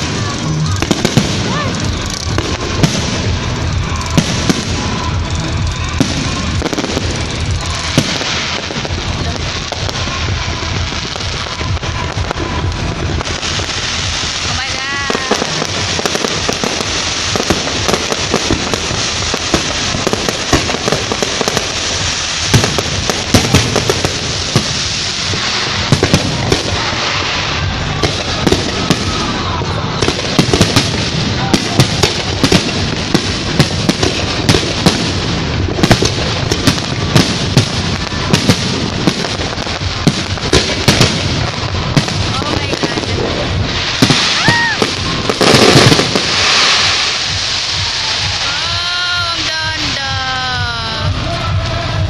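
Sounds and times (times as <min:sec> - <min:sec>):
fireworks bangs and crackling: 0:00.0 - 0:52.0
steady loud hiss: 0:00.0 - 0:52.0.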